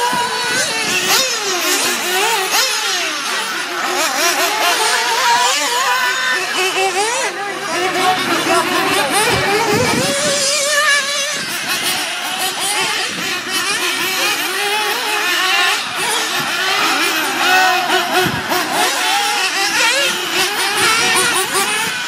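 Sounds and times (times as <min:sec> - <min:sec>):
small engines screaming at high revs: 0:00.0 - 0:22.0.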